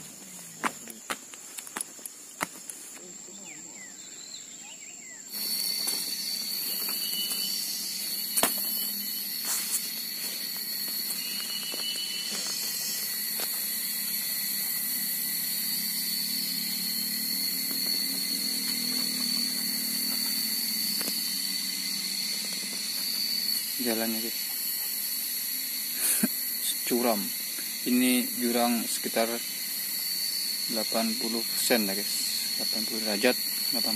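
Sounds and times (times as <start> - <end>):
high-pitched insect drone: 0.0 - 33.9.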